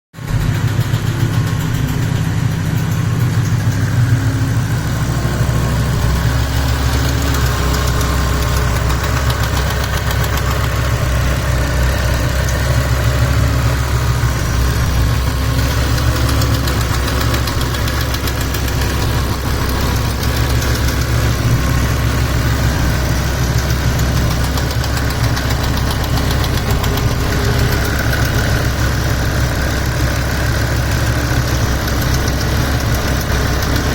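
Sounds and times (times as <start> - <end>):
car engine idling: 0.1 - 33.9
fast light engine ticking: 0.2 - 33.9.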